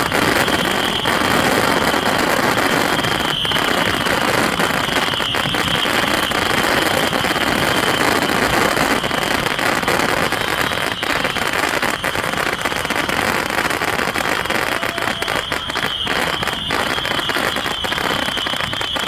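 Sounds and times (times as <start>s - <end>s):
high whistle: 0.0s - 19.0s
rockets launching and popping: 0.0s - 19.0s.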